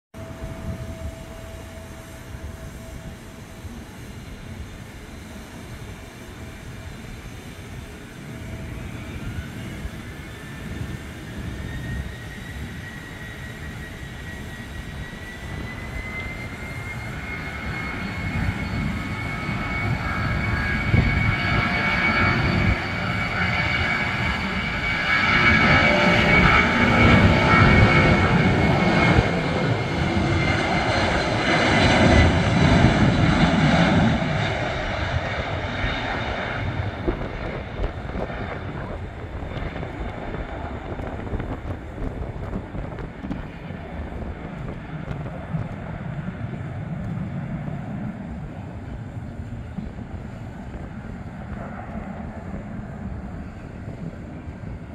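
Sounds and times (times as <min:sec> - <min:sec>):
jet engine fan whine: 0:00.1 - 0:54.9
deep jet rumble: 0:00.2 - 0:54.9.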